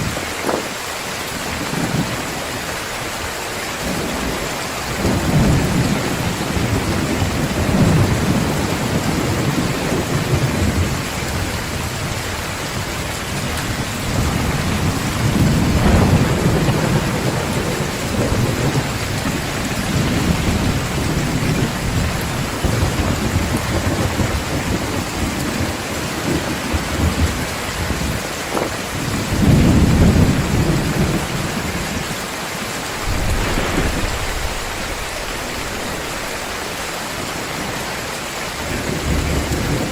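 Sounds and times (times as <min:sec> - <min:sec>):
heavy rain pouring: 0:00.0 - 0:39.9
thunder rumbling: 0:01.3 - 0:32.2, 0:32.8 - 0:39.9.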